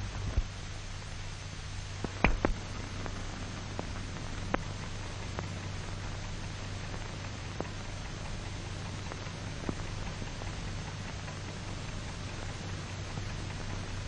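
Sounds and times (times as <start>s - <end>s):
film soundtrack hiss: 0.0s - 14.0s
low hum: 0.0s - 14.0s
clicks and pops: 2.0s - 13.8s.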